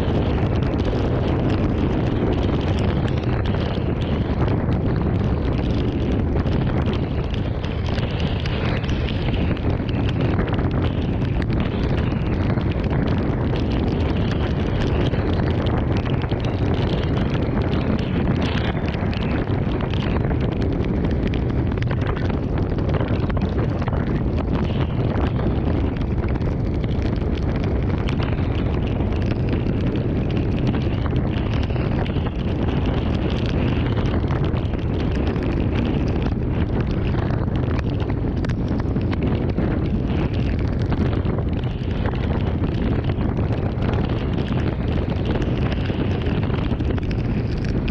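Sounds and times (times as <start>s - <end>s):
strong wind buffeting microphone: 0.0s - 47.9s.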